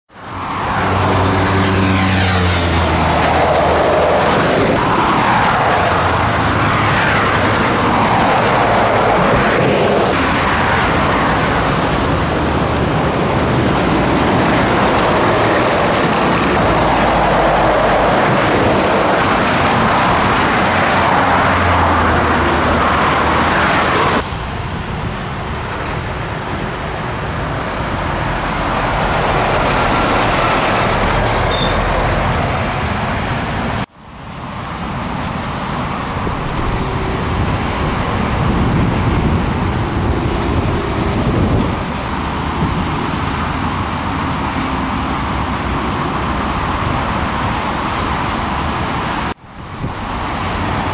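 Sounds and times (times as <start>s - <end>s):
diesel engines: 0.1s - 50.9s
heavy traffic passing: 0.1s - 50.9s.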